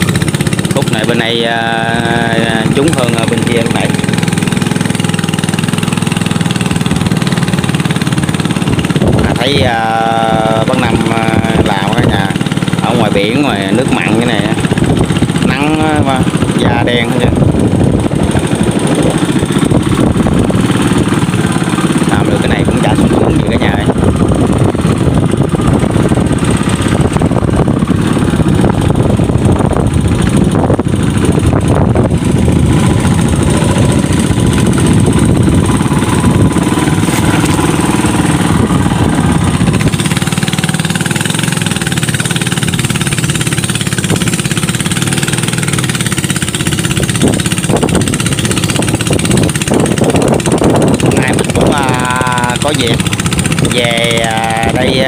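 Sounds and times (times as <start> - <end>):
boat engine running: 0.0 - 55.0
propeller spray: 0.0 - 55.0.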